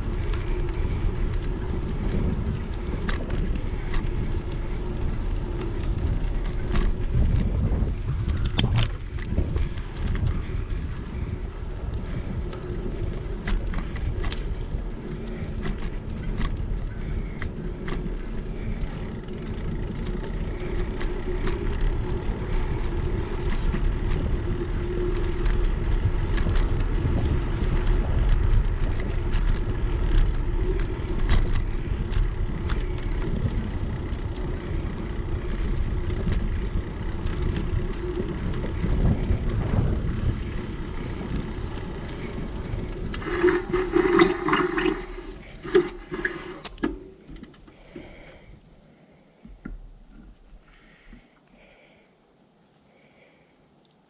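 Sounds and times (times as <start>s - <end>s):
wind rushing over microphone: 0.0s - 48.7s
bicycle tyres rolling on pavement: 0.0s - 52.0s.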